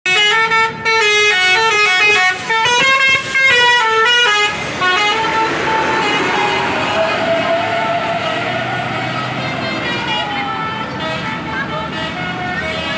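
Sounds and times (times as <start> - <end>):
bus musical horn melody: 0.1 - 12.9
vehicle noise: 0.1 - 12.9.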